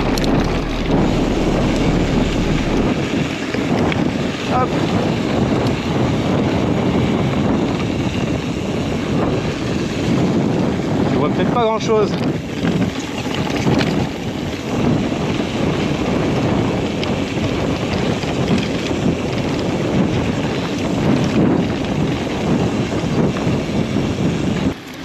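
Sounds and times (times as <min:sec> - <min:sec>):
wind rushing over microphone: 0:00.0 - 0:25.0
bike tyres rolling on dirt: 0:04.6 - 0:25.0.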